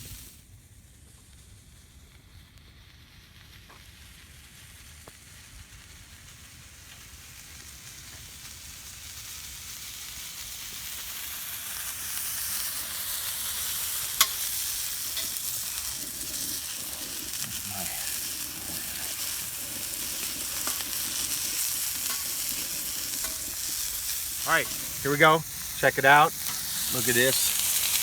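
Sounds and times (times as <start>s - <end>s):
vegetables sizzling on a griddle: 0.0s - 28.0s.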